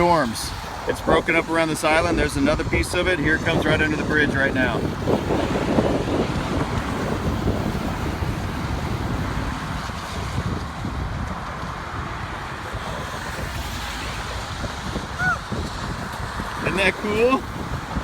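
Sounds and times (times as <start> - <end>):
steady rushing noise: 0.0 - 18.0
wind buffeting microphone: 0.0 - 18.0.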